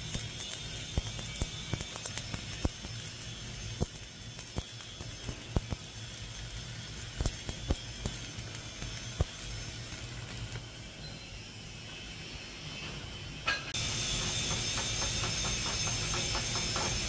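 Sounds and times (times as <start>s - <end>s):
welding arc hissing and crackling: 0.0s - 17.0s.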